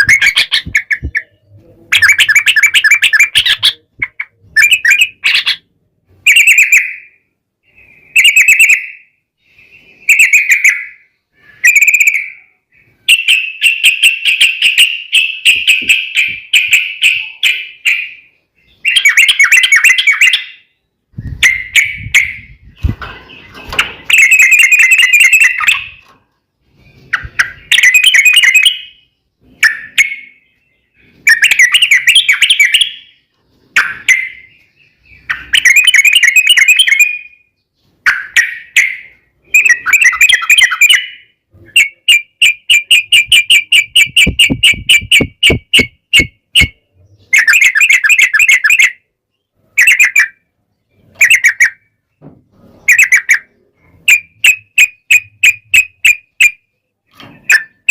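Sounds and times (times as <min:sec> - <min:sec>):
bird singing: 0:00.0 - 0:57.9.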